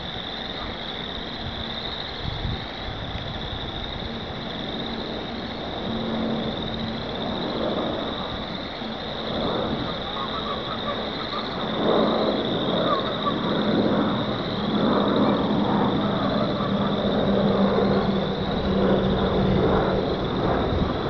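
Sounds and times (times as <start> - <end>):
chorus of frogs calling: 0.0 - 21.0.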